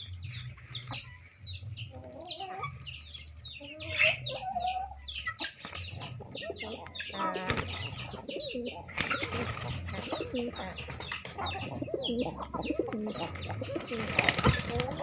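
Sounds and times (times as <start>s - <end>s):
chickens clucking: 0.0s - 15.0s
pigeons cooing: 0.0s - 15.0s.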